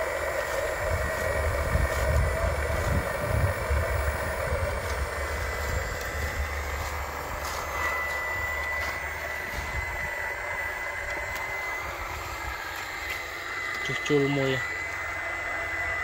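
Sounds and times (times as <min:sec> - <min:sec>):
excavator pump whining: 0:00.0 - 0:16.0.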